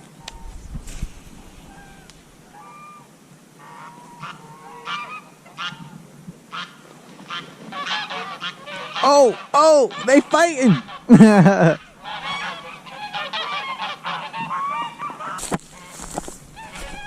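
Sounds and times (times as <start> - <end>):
geese honking: 1.3 - 5.8, 7.3 - 17.0.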